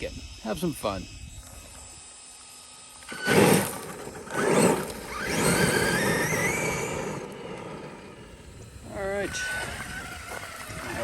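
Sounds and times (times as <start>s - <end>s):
toy truck electric motor whine: 0.0s - 11.0s.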